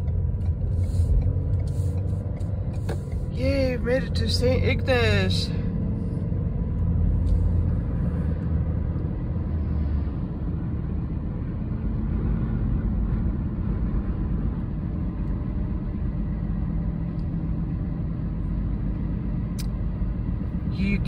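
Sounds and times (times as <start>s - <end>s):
car road noise from cabin: 0.0s - 21.0s.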